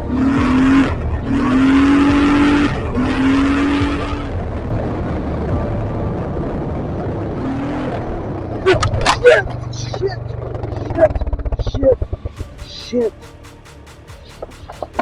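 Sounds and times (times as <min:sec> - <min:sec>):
broad rushing noise: 0:00.0 - 0:15.0.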